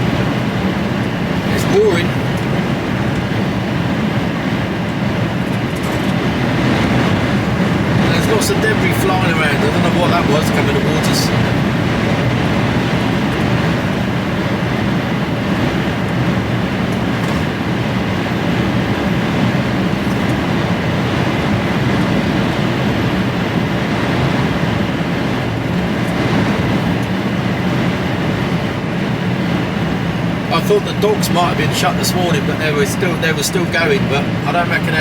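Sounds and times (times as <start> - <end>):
storm wind against truck cab: 0.0 - 35.0
truck engine and road noise: 0.0 - 35.0.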